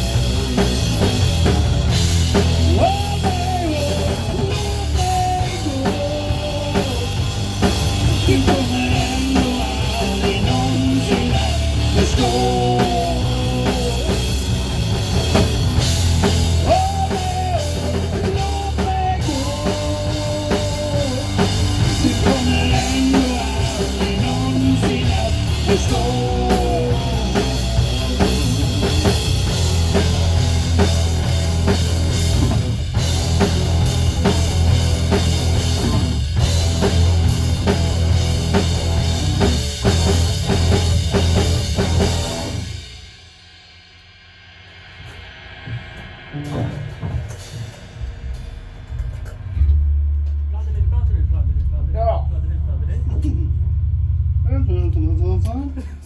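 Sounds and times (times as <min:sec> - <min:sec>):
instrumental rock music: 0:00.0 - 0:56.0.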